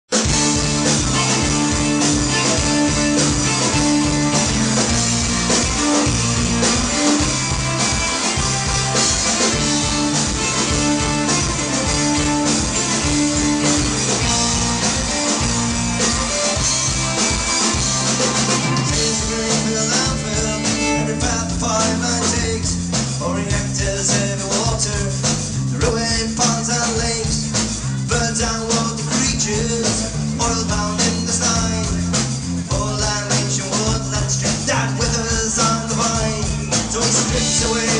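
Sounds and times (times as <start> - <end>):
live punk band playing: 0.1 - 37.9.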